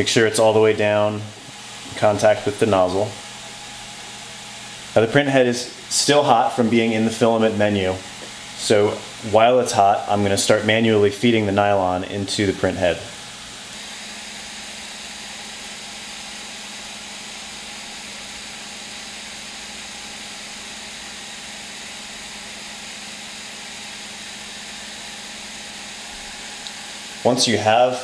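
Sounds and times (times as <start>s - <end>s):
cooling fans whirring: 0.0s - 28.0s.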